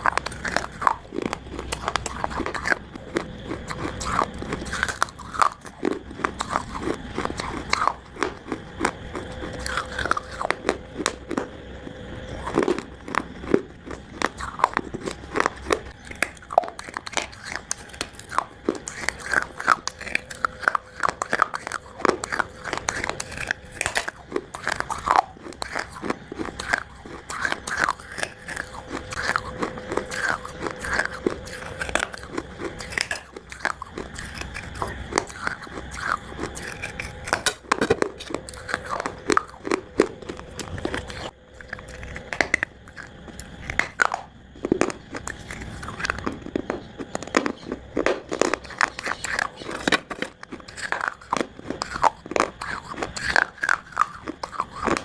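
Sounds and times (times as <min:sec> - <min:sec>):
clay being chewed with crunches: 0:00.0 - 0:55.0.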